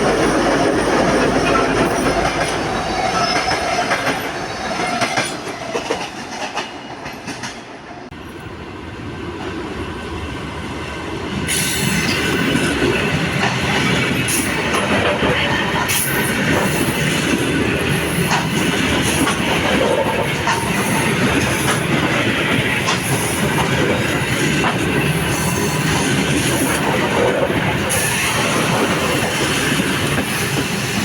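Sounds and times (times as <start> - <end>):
train wheels clattering and squealing: 0.0 - 7.8, 11.4 - 31.0.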